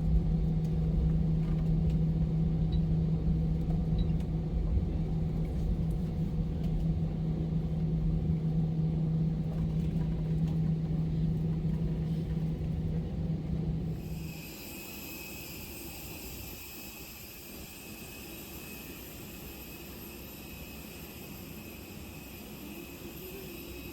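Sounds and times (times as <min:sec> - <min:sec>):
aircraft cabin ventilation drone: 0:00.0 - 0:23.9.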